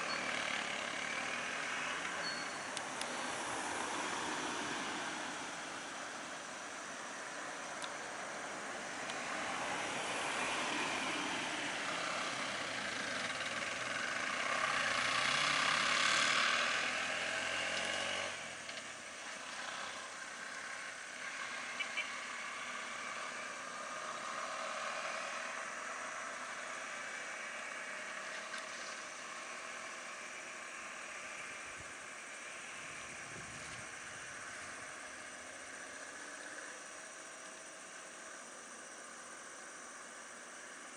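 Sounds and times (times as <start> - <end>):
road vehicle engines running: 0.0 - 40.9.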